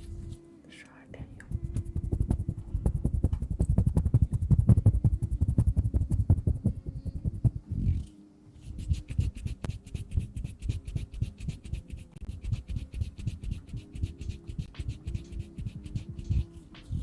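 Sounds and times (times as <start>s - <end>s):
fingers brushing microphone: 1.4s - 17.0s.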